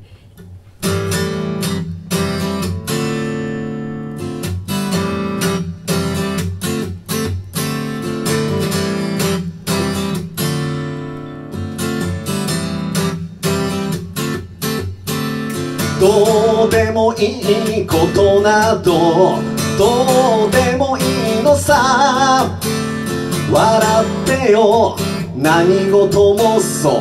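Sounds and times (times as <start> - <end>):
acoustic guitar strumming: 0.5 - 27.0.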